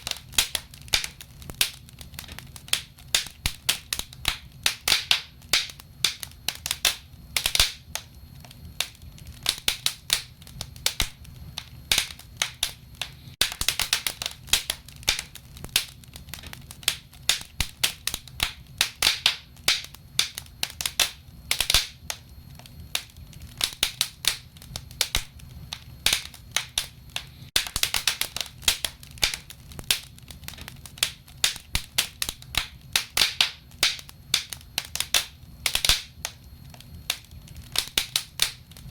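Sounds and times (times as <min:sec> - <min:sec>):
low rumble of burning logs: 0:00.0 - 0:38.9
wood fire crackling: 0:00.0 - 0:38.9.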